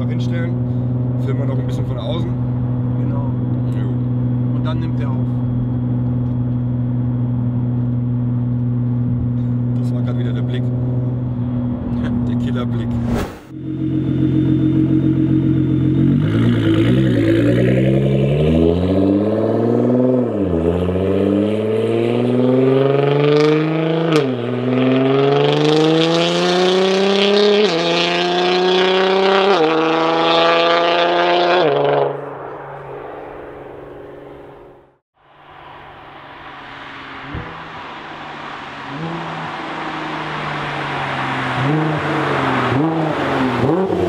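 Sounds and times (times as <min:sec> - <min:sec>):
car engine accelerating hard: 0:00.0 - 0:34.8, 0:35.4 - 0:44.0.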